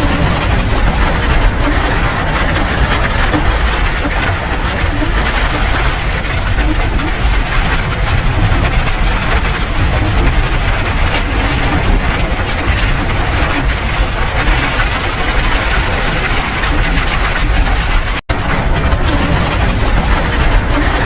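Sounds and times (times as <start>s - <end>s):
deep low rumble: 0.0s - 21.0s
steady rain: 0.0s - 21.0s.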